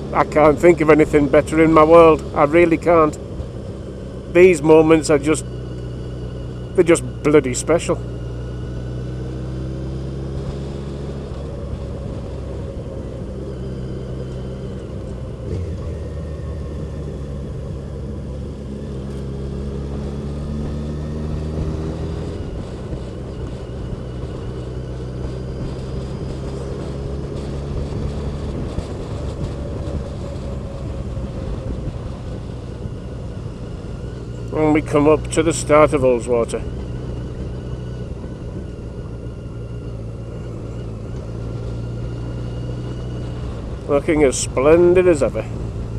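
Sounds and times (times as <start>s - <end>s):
road and wind noise: 0.0s - 45.9s
vehicle engine running: 0.0s - 45.9s.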